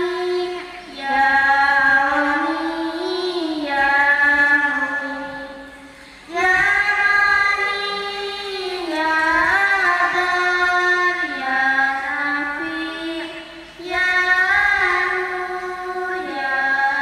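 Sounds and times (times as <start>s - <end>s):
child chanting over a loudspeaker: 0.0s - 17.0s.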